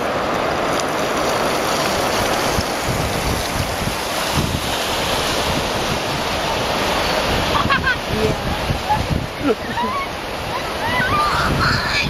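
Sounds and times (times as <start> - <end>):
river flowing over gravel: 0.0 - 12.0
wind on microphone: 1.9 - 12.0.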